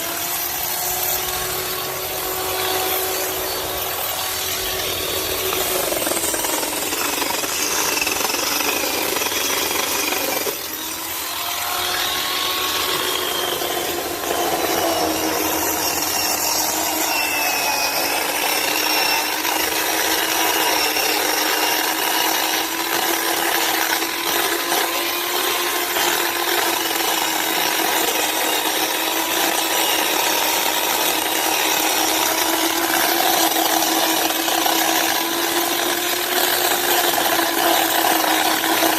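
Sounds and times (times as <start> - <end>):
chainsaw sawing through tree: 0.0 - 38.9.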